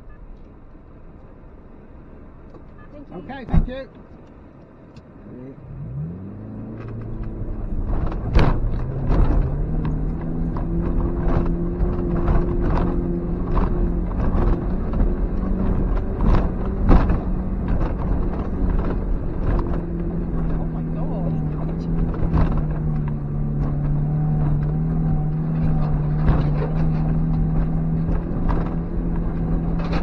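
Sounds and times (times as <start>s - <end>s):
car engine revving under load: 0.0s - 30.0s
car bouncing knocks and clatters: 2.4s - 4.3s, 6.8s - 30.0s.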